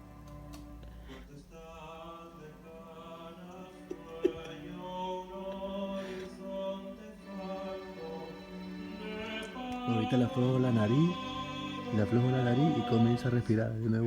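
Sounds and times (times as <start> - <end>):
chant-like singing: 1.1 - 14.0.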